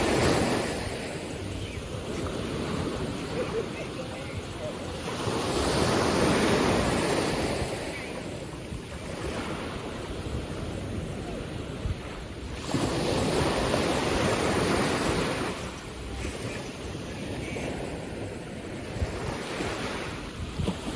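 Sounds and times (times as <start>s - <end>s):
ocean waves breaking on shore: 0.0s - 20.9s.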